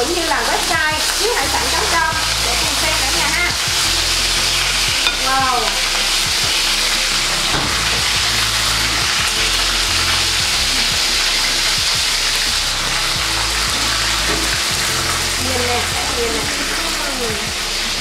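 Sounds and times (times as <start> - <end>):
fish sizzling in a frying pan: 0.0 - 18.0.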